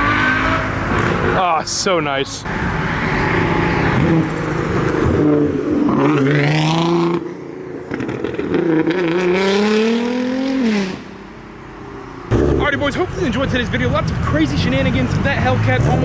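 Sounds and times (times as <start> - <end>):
car engine revving: 0.0 - 1.6, 2.4 - 11.2, 12.3 - 16.0.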